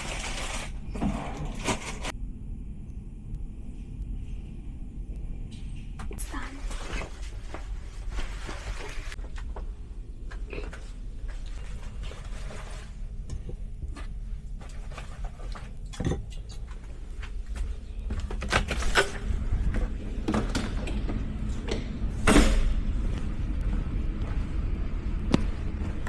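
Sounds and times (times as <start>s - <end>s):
steady low rumble: 2.1s - 26.0s.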